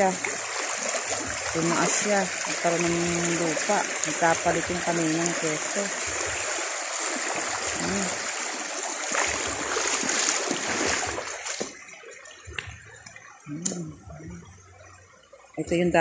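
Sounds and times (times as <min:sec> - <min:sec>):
creek water running: 0:00.0 - 0:16.0.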